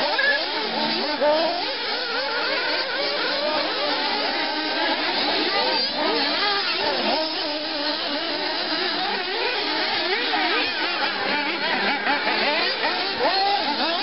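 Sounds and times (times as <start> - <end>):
small engines buzzing: 0.0 - 14.0.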